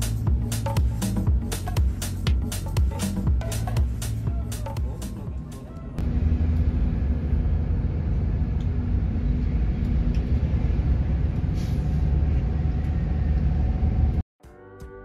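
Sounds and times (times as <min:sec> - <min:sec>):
bus engine and road rumble: 0:00.0 - 0:14.2.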